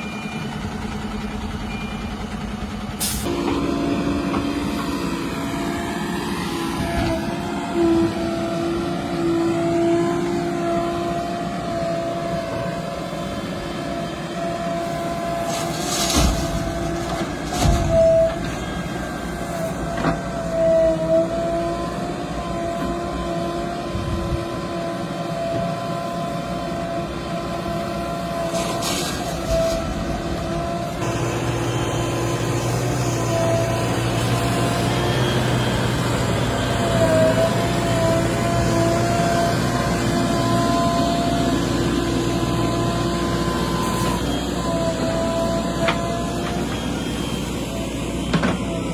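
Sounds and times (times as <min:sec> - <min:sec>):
diesel engine running: 0:00.0 - 0:48.9
held whine: 0:00.0 - 0:48.9.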